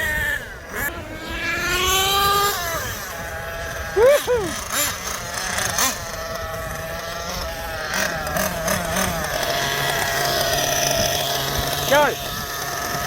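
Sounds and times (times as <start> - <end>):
small nitro engines whining: 0.0 - 13.0.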